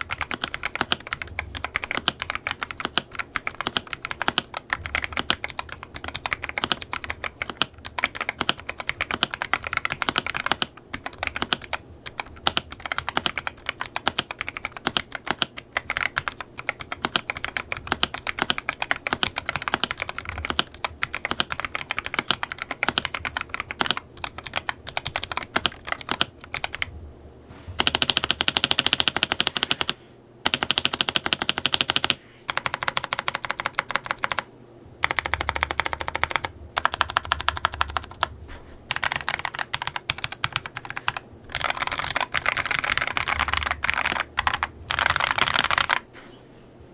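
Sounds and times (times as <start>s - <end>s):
mechanical keyboard typing: 0.0s - 26.9s, 27.8s - 46.1s.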